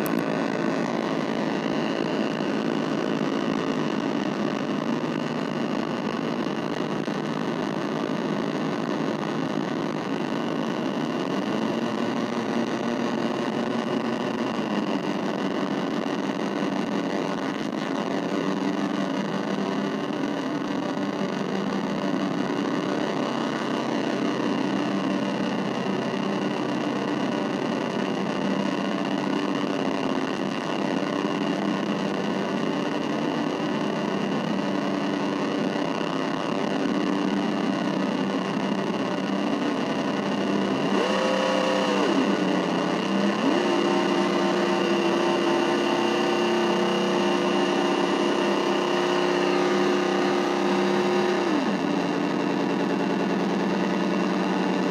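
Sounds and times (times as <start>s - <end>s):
distorted synthesizer drone: 0.0s - 54.9s.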